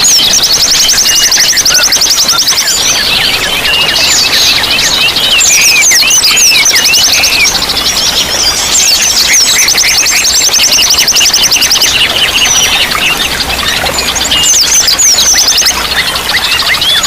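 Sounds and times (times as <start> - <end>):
running water: 0.0 - 17.0
songbirds singing: 0.0 - 17.0.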